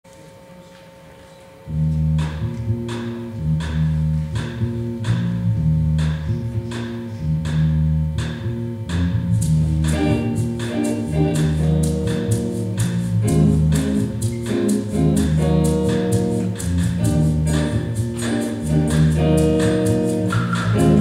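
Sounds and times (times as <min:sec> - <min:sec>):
band music with guitar: 0:01.7 - 0:21.0.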